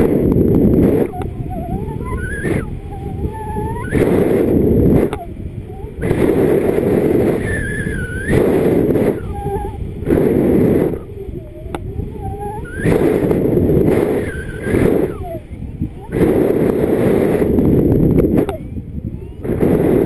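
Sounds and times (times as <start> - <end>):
short warbling tones: 0.0 - 20.0
wind rushing over microphone: 0.0 - 20.0.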